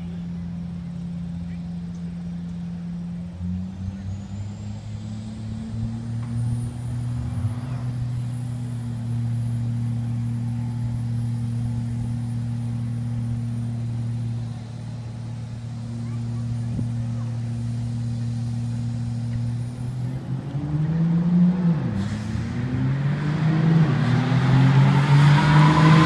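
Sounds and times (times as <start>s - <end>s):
distant engines idling: 0.0s - 26.0s.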